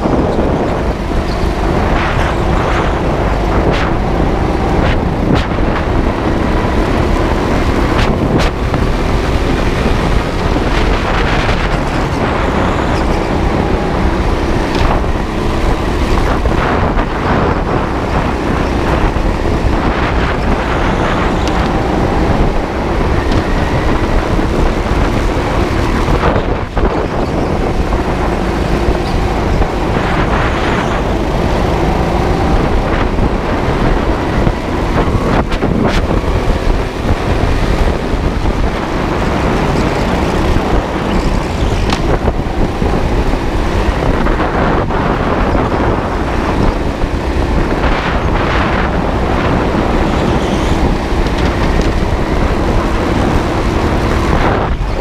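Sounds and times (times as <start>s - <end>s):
go-kart motor: 0.0s - 55.0s
wind buffeting microphone: 0.0s - 55.0s.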